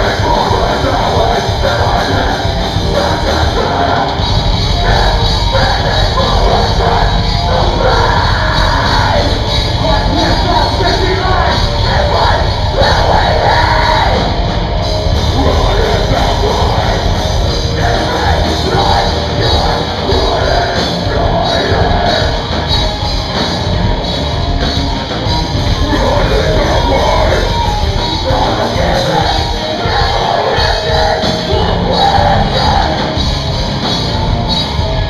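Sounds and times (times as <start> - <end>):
person singing: 0.0 - 22.8, 25.6 - 33.4
rock band playing live: 0.0 - 35.0.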